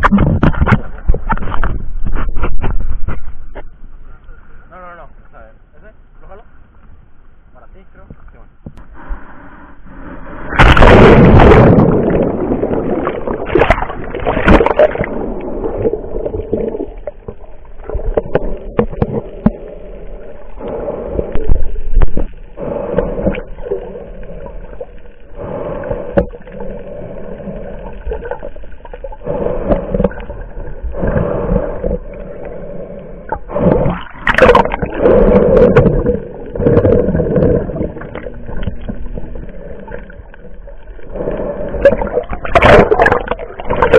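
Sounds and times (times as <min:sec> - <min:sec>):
muffled water sloshing and gurgling: 0:00.0 - 0:04.7, 0:08.3 - 0:43.9.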